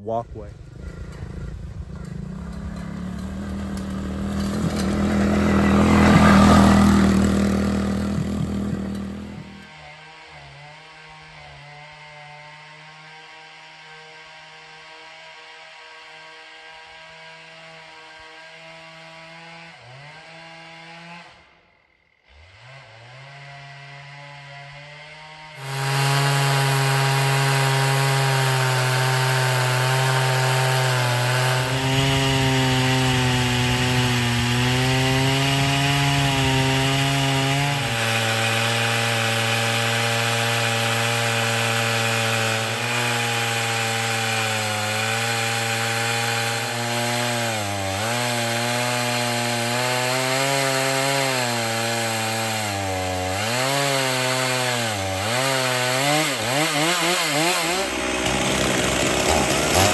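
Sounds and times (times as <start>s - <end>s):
chainsaw cutting log: 0.6s - 59.9s.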